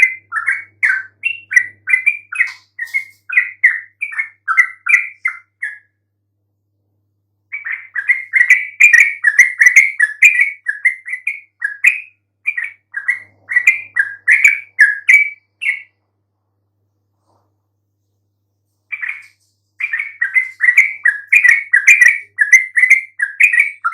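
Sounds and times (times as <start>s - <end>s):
bird chattering song: 0.0s - 5.9s, 7.5s - 16.0s, 18.9s - 23.9s.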